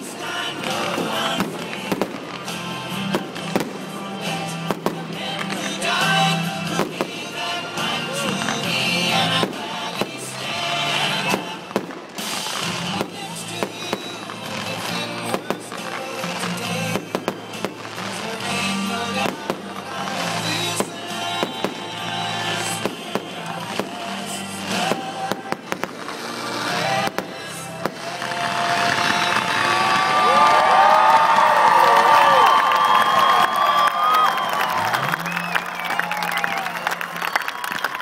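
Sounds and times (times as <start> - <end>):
fireworks bursting: 0.0 - 38.0
fireworks crackling: 0.0 - 38.0
music playing: 0.0 - 38.0.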